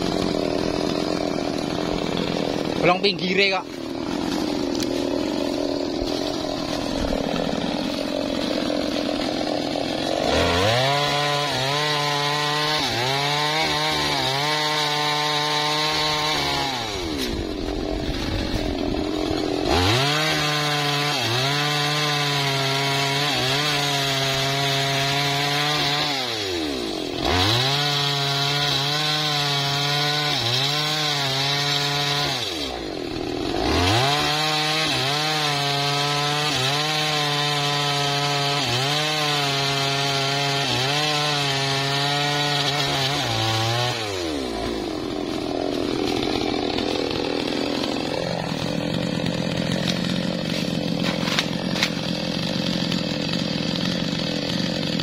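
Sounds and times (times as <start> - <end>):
chainsaw cutting a log: 0.0 - 55.0.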